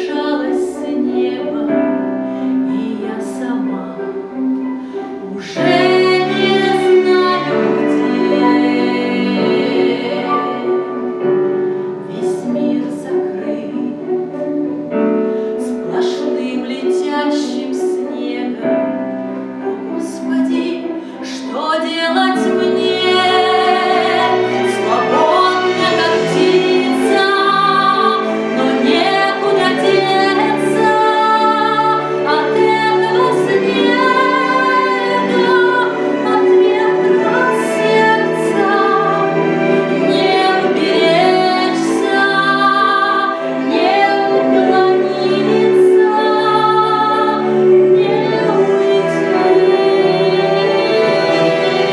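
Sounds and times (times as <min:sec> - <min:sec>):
female voices singing in harmony: 0:00.0 - 0:15.0, 0:15.6 - 0:51.9.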